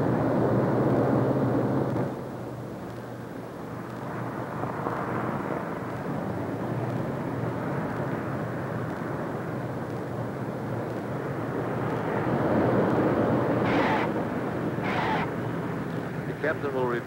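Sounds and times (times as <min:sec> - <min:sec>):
airliner piston engines droning: 0:00.0 - 0:17.0.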